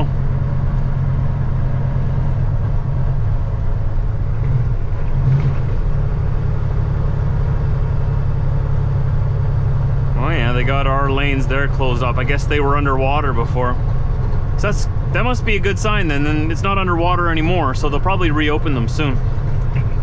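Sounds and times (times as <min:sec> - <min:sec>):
diesel truck engine running: 0:00.0 - 0:20.0
road and tyre noise: 0:00.0 - 0:20.0.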